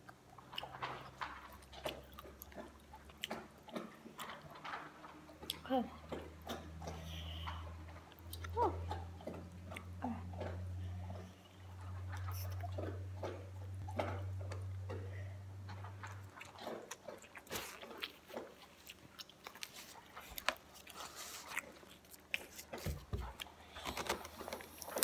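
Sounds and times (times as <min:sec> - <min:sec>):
low steady hum: 0:00.0 - 0:25.0
person chewing noodles: 0:00.0 - 0:25.0.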